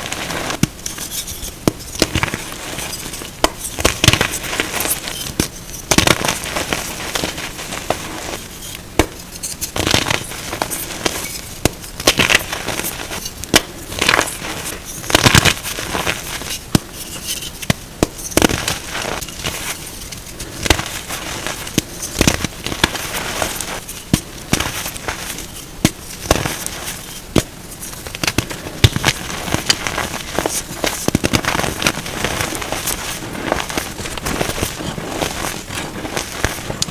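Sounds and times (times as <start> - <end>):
chalk being crushed: 0.0 - 36.9.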